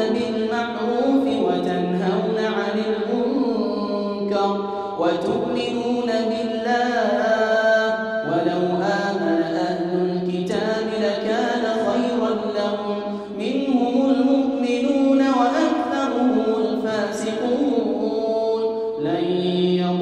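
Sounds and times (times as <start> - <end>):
wordless vocal chanting: 0.0 - 20.0.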